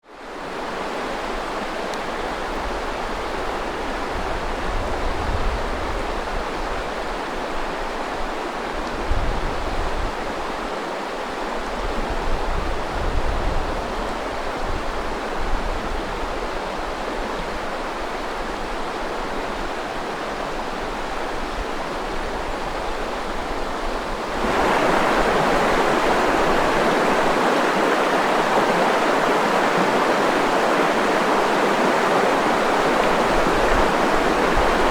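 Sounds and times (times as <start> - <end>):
river water rushing: 0.1 - 13.0, 13.6 - 34.9.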